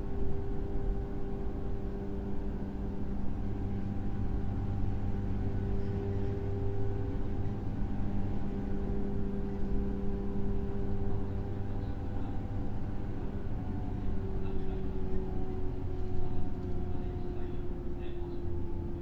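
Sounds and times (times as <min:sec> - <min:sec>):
electric train motor hum: 0:00.0 - 0:17.9
train rumble: 0:00.0 - 0:19.0.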